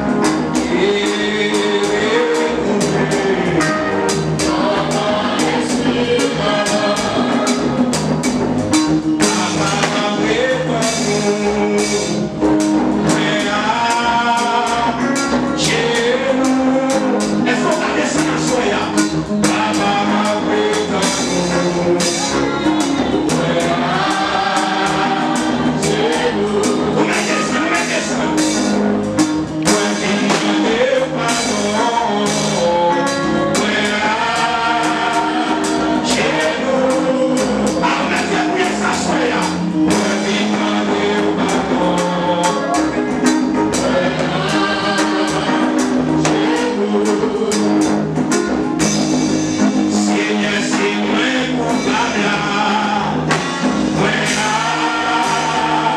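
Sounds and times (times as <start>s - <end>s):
hand drums steady beat: 0.0s - 55.9s
live band playing: 0.0s - 55.9s
man singing into a microphone: 0.3s - 7.7s, 9.2s - 12.3s, 13.0s - 28.8s, 29.6s - 43.1s, 49.6s - 55.9s.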